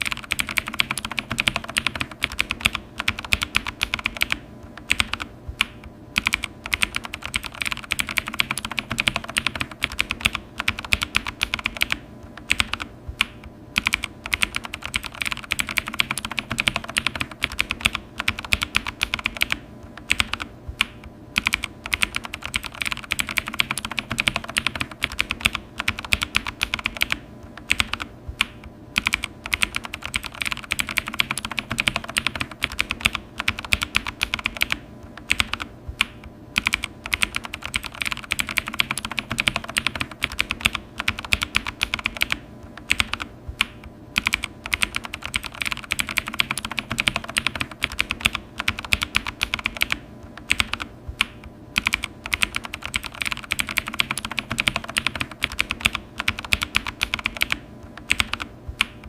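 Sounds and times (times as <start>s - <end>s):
computer keyboard typing: 0.0s - 59.0s.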